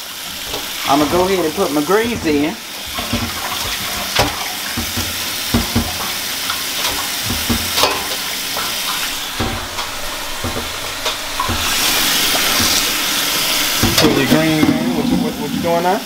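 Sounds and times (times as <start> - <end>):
wet leaves rustling: 0.0 - 15.8
faucet water running into sink: 0.0 - 16.0.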